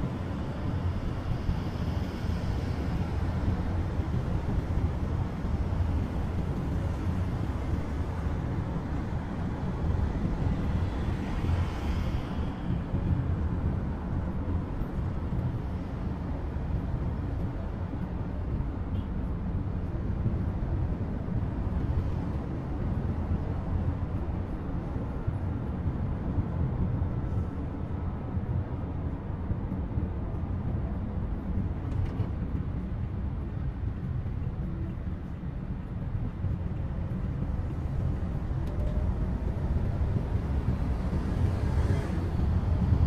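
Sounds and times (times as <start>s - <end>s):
van engine and road rumble: 0.0s - 43.0s.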